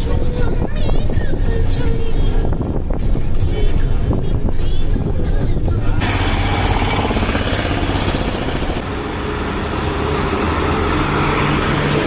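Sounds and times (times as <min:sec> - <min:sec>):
road and traffic noise: 0:00.0 - 0:12.0
vehicle engine humming: 0:00.0 - 0:12.0.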